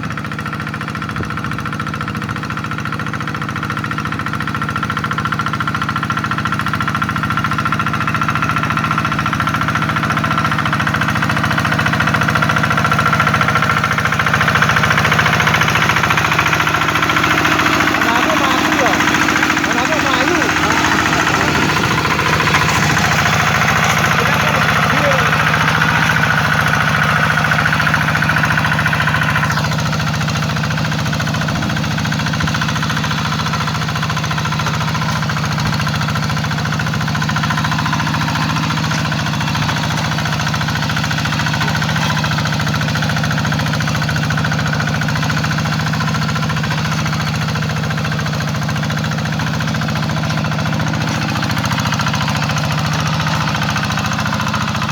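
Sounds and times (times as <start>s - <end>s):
diesel engine knocking: 0.0s - 54.9s.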